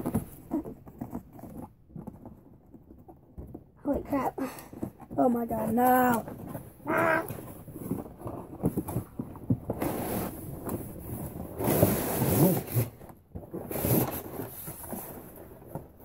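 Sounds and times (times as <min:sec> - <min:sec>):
cardboard rustling and scraping: 0:00.0 - 0:16.0.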